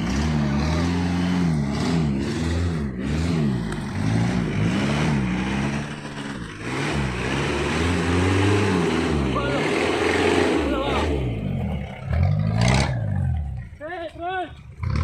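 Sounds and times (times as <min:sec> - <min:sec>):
engine revving up and down: 0:00.0 - 0:13.6, 0:14.8 - 0:15.0.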